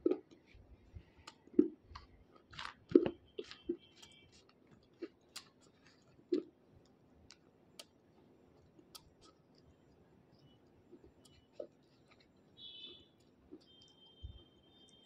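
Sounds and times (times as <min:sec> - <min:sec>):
crunching and chewing stone: 0:00.0 - 0:15.0.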